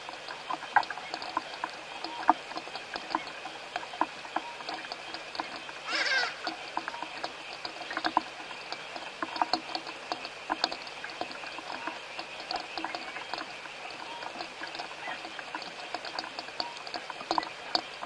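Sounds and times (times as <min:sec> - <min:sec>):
drips and patters: 0:00.0 - 0:18.0
steady rain hiss: 0:00.0 - 0:18.0.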